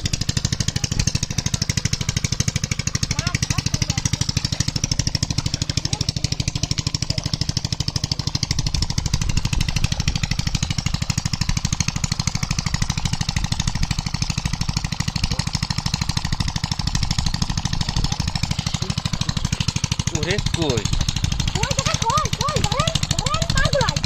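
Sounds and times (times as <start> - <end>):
small engine chugging: 0.0 - 24.0.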